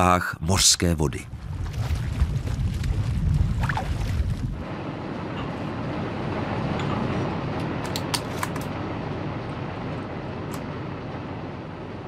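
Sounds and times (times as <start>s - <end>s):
vessel rumble: 0.5s - 12.0s.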